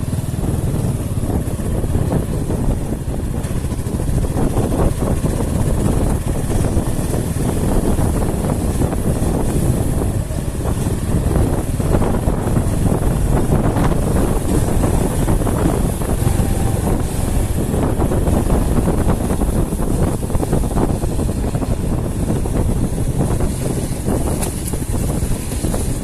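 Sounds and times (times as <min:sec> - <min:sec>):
vehicle rumbling in motion: 0:00.0 - 0:26.0
wind buffeting microphone: 0:00.0 - 0:26.0.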